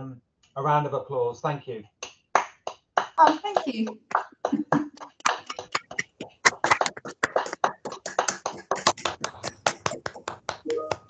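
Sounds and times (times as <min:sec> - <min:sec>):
hand clapping: 0:02.0 - 0:11.0.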